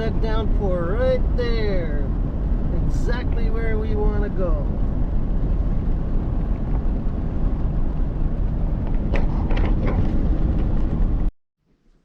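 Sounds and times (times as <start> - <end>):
road and engine noise: 0.0 - 11.9.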